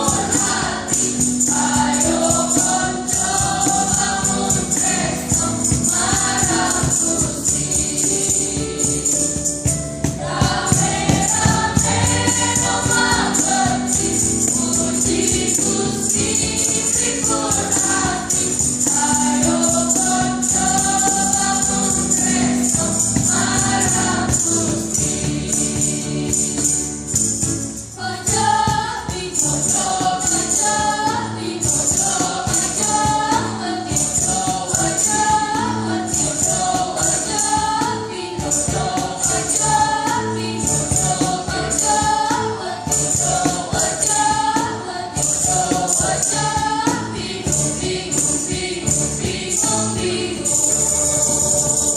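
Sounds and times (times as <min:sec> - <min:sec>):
church choir singing: 0:00.0 - 0:51.9.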